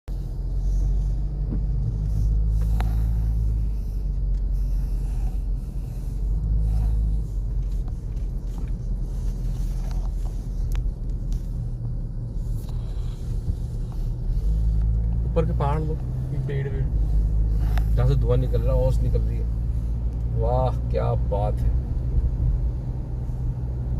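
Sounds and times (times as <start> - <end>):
road noise: 0.0 - 23.9
vehicle engine rumble: 0.0 - 23.9.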